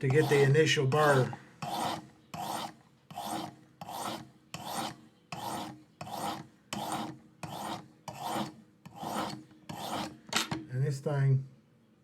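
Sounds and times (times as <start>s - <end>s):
sharpening stone rasping on blade: 0.0s - 10.2s.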